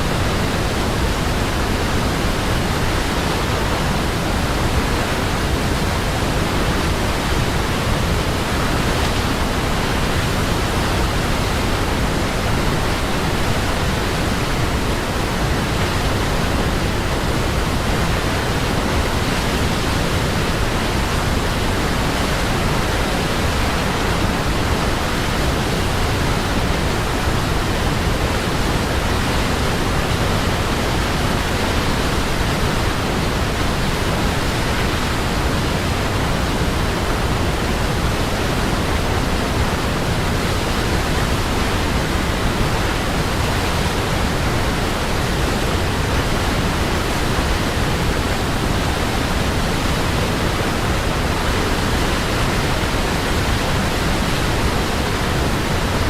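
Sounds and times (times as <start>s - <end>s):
waterfall roar: 0.0s - 56.0s.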